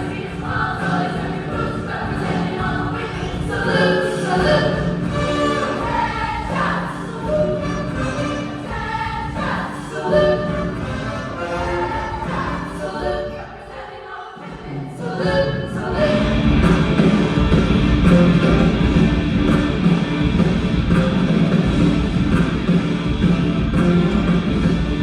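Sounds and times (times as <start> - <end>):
full band playing: 0.0 - 13.2, 15.2 - 25.0
choir singing: 0.0 - 20.2.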